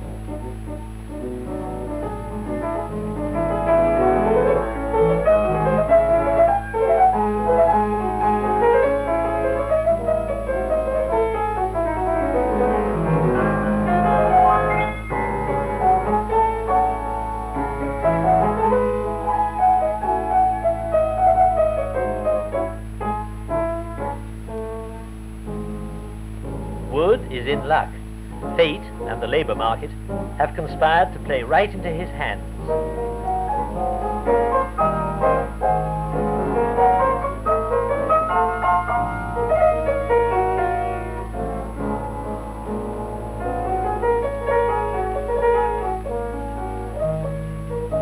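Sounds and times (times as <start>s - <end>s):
piano film music: 0.0s - 48.0s.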